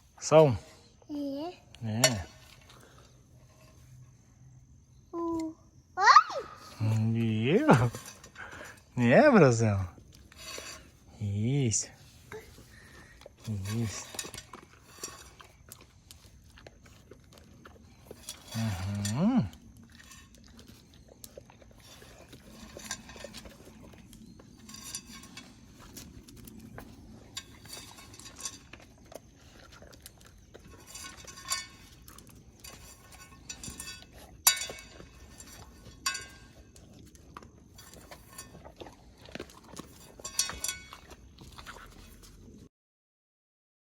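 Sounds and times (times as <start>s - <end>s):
dog eating: 0.0s - 5.1s, 6.5s - 42.7s
crunches and clinks: 0.1s - 4.2s, 4.9s - 42.5s.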